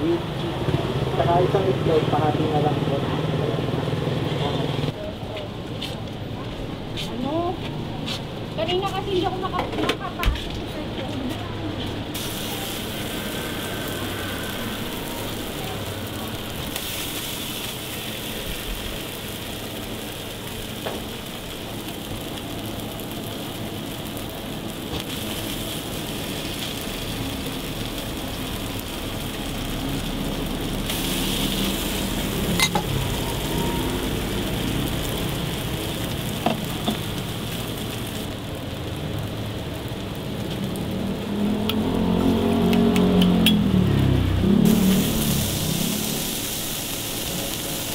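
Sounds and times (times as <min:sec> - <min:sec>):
burger patties sizzling on griddle: 0:00.0 - 0:11.0, 0:11.8 - 0:47.9.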